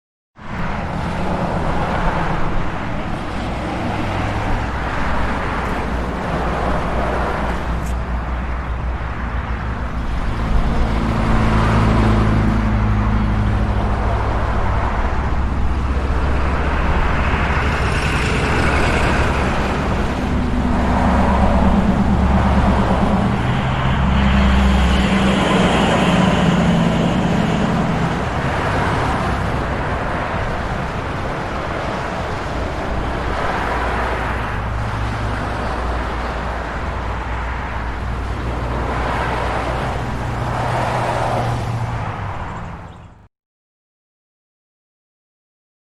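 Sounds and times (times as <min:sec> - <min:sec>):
cars passing: 0:00.4 - 0:43.3
engine and tyre rumble: 0:00.4 - 0:43.3
heavy trucks passing: 0:00.4 - 0:43.3.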